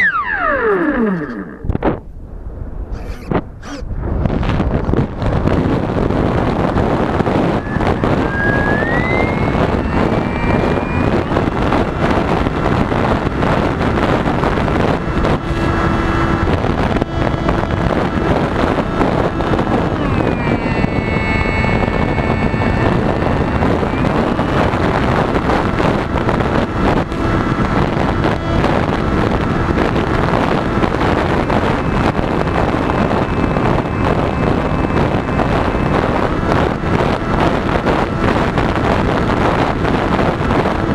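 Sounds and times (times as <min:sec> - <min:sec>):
model plane motor whine: 0:00.0 - 0:01.8, 0:04.9 - 0:40.9
wind rushing over microphone: 0:00.0 - 0:40.9.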